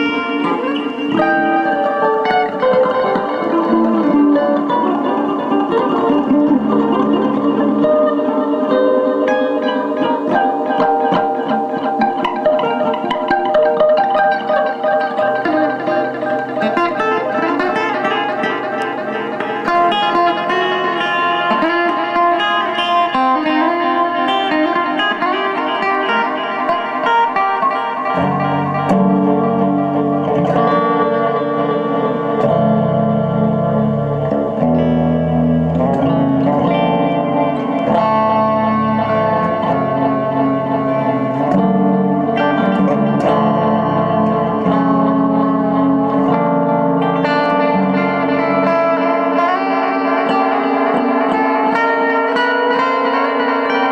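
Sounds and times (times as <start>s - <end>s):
plucked guitar with reverb: 0.0s - 53.9s.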